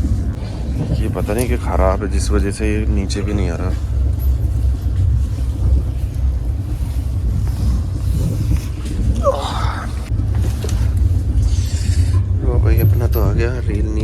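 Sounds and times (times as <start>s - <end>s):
train rumbling from inside coach: 0.0s - 14.0s.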